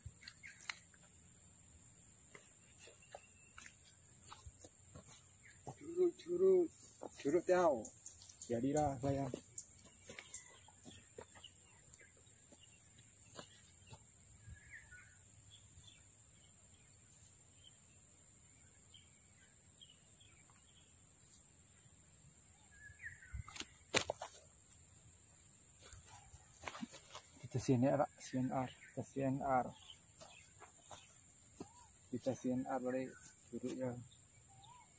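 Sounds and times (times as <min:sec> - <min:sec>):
steady high-pitched hiss: 0:00.0 - 0:10.5, 0:11.5 - 0:34.9
faint bird chirps: 0:02.2 - 0:21.8, 0:22.5 - 0:24.5, 0:25.8 - 0:34.9.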